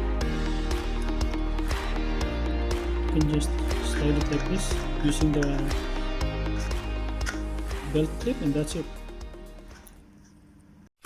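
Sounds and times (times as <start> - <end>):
background music: 0.0 - 10.1.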